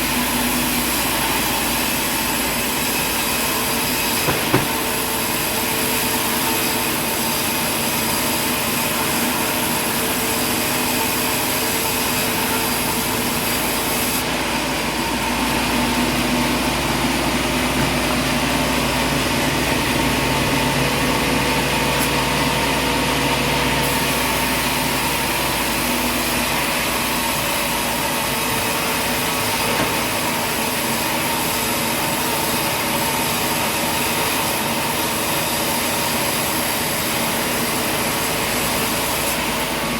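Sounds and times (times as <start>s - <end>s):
heavy machinery running: 0.0s - 39.9s.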